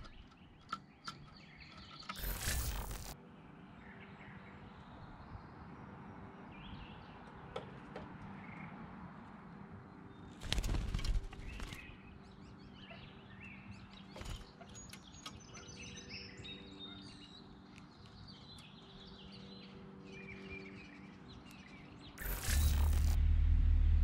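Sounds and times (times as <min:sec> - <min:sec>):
songbirds chirping: 0:00.0 - 0:23.1.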